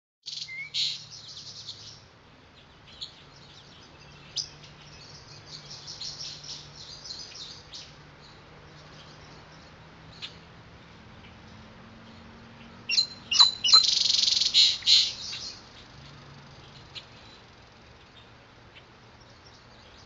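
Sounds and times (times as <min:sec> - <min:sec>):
songbirds chirping: 0:00.3 - 0:20.0.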